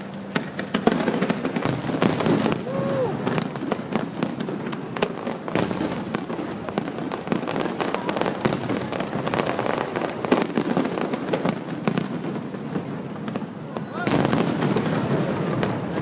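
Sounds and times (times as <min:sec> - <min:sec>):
fireworks popping and crackling: 0:00.0 - 0:16.0
loud firework bang: 0:00.3 - 0:16.0.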